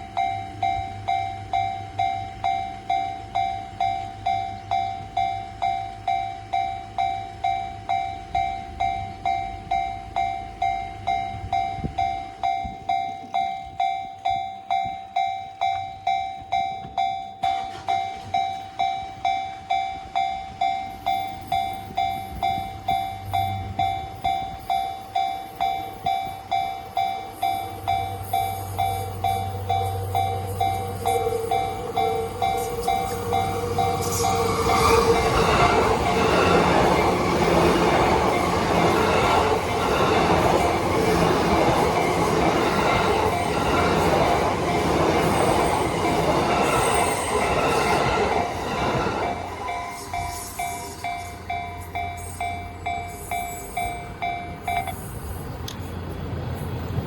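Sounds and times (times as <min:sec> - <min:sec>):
level crossing warning bell: 0:00.0 - 0:57.0
trains rumbling: 0:00.0 - 0:57.0.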